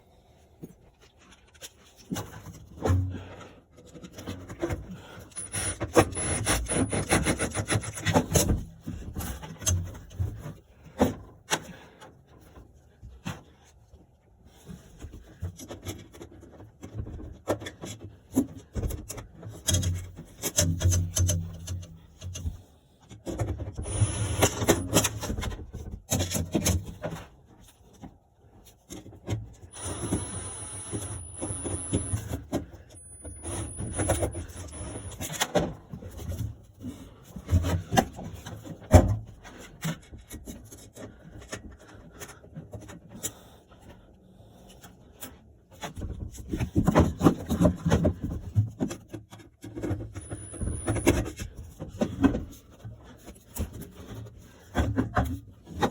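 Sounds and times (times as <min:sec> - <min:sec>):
rubbing and scraping handling noise: 0:00.6 - 0:55.9.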